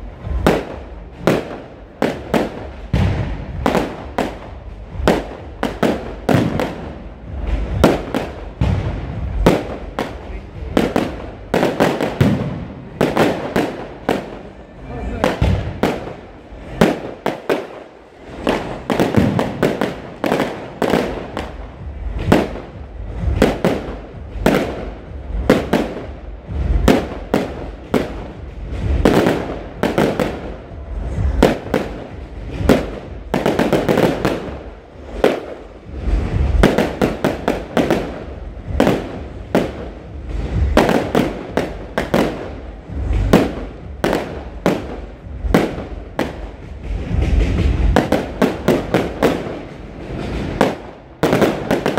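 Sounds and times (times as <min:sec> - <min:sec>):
low rumble: 0:00.0 - 0:17.3, 0:17.9 - 0:51.9.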